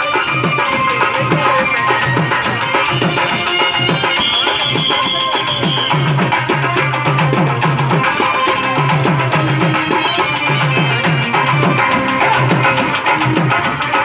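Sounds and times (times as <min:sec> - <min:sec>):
hand drum strokes: 0:00.0 - 0:14.0.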